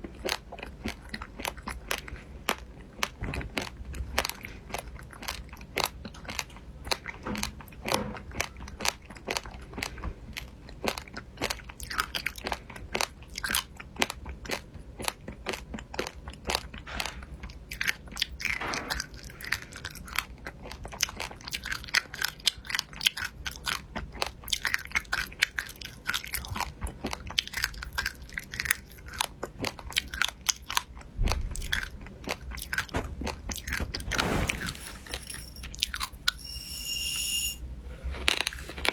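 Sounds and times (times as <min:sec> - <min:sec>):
person chewing crunchy food: 0:00.0 - 0:36.4, 0:38.0 - 0:38.9.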